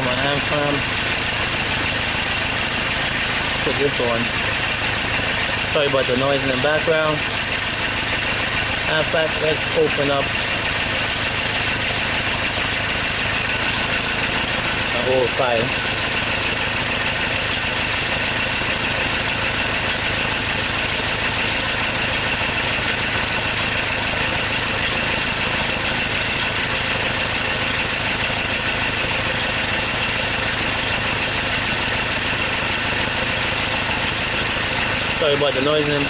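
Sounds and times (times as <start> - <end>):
diesel engine rough idle: 0.0 - 36.0.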